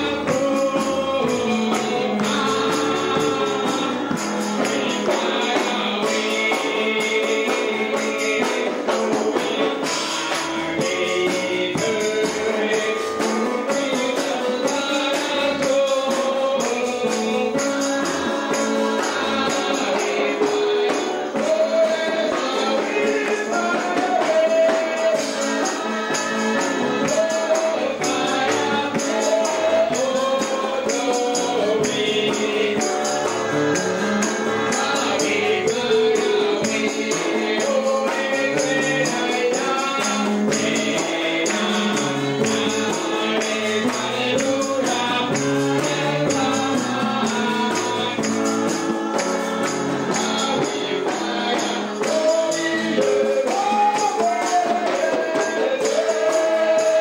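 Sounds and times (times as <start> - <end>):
congregation singing: 0.0 - 57.0
tambourine: 0.0 - 57.0.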